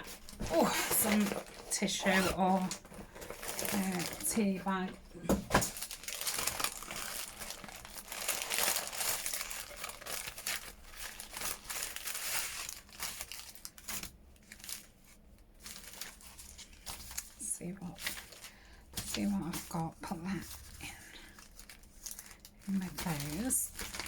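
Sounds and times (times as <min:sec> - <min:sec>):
thin paper crinkling and rustling: 0:00.0 - 0:24.0.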